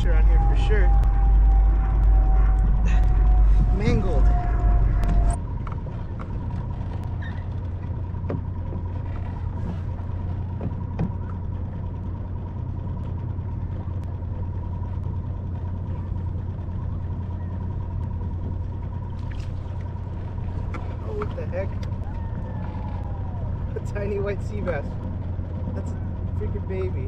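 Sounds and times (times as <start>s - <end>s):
outboard motor droning: 0.0s - 27.0s.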